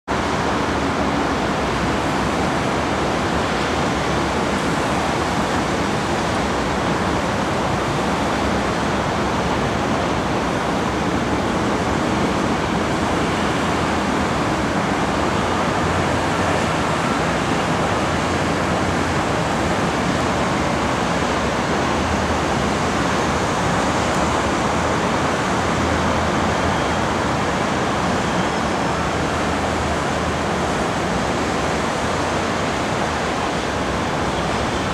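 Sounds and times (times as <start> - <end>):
city traffic rush: 0.0 - 34.9.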